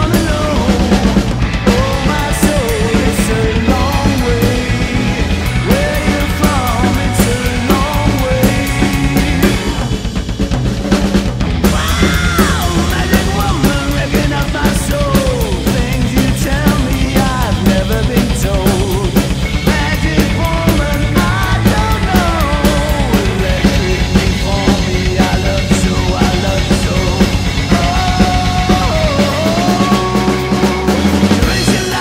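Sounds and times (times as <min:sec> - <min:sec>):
person singing: 0:00.0 - 0:10.0, 0:11.6 - 0:32.0
drum kit playing rock beat: 0:00.0 - 0:32.0
recorded hard rock song: 0:00.0 - 0:32.0.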